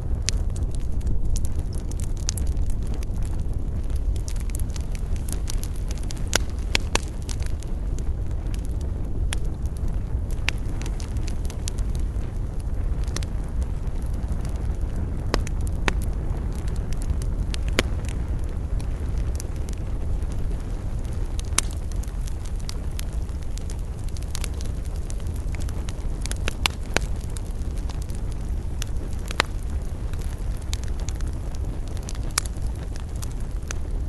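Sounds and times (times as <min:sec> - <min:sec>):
campfire crackling: 0:00.0 - 0:34.0
fire snaps and pops: 0:00.0 - 0:34.0
low rumble: 0:00.0 - 0:34.0.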